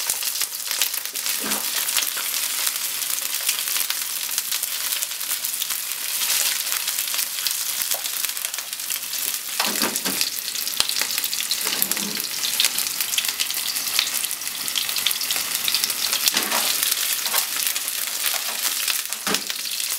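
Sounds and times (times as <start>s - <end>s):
chicken sizzling in hot oil: 0.0s - 19.9s.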